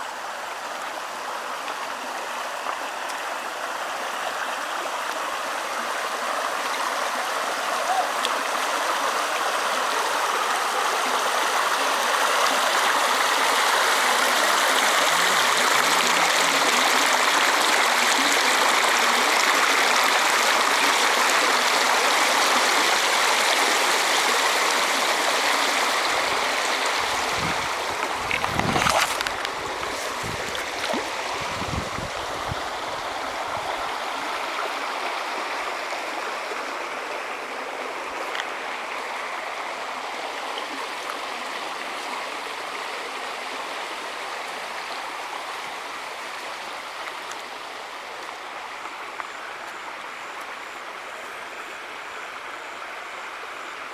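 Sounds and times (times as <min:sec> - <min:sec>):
stream splashing over rocks: 0:00.0 - 0:53.9.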